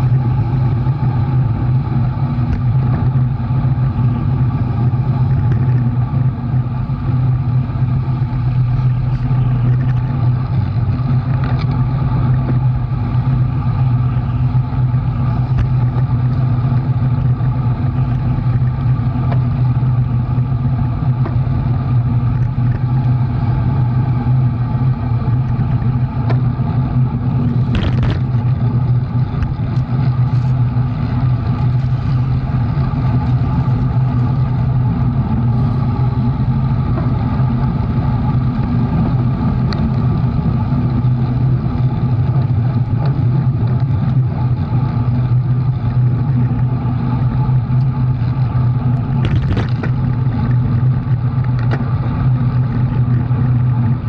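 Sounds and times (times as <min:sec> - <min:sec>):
road and wind noise: 0:00.0 - 0:54.0
vehicle engine humming steadily: 0:00.0 - 0:54.0.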